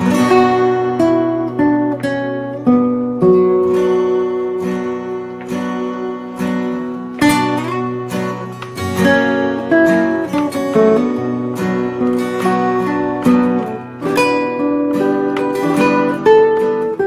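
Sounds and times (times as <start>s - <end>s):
acoustic guitars playing: 0.0s - 17.0s.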